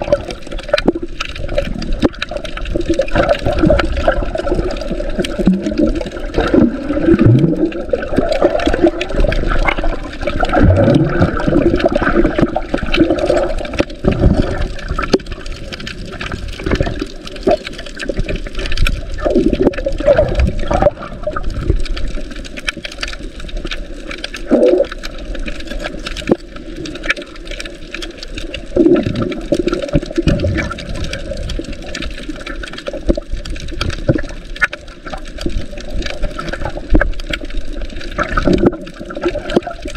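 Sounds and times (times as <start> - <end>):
water sloshing underwater: 0.0 - 39.9.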